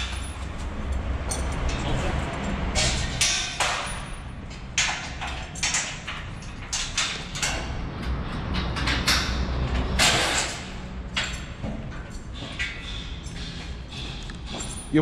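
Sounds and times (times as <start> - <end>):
steel frame clanking and scraping: 0.0 - 15.0.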